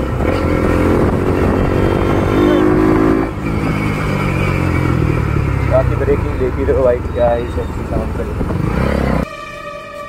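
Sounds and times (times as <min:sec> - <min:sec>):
motorcycle engine accelerating: 0:00.0 - 0:09.3.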